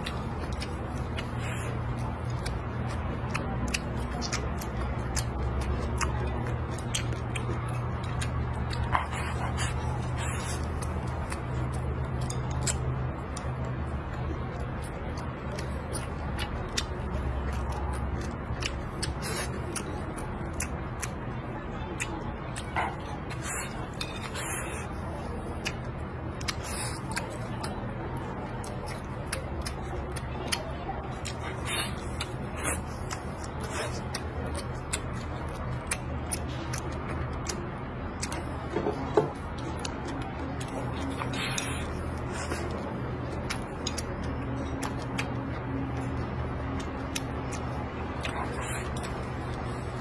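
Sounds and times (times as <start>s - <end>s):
person chewing food: 0.0s - 50.0s
steady low hum: 0.0s - 50.0s.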